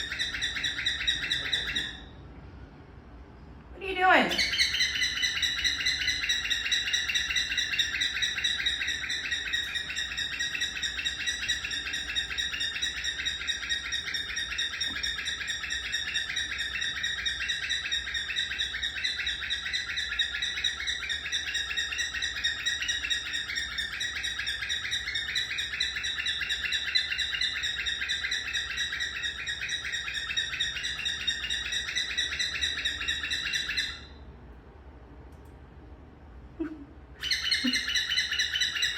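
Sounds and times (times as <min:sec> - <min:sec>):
cockatiel chirping: 0:00.0 - 0:02.1, 0:04.3 - 0:34.2, 0:37.2 - 0:38.9.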